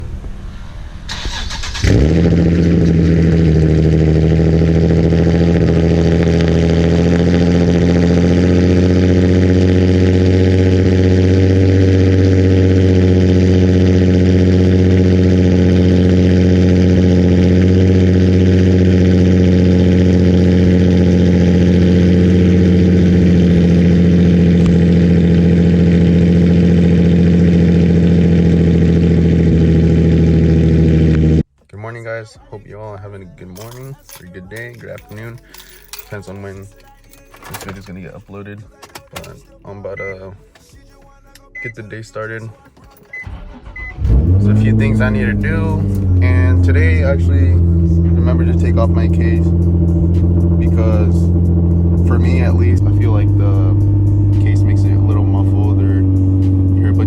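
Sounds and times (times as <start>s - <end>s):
car engine starting and idling: 0.0s - 57.0s.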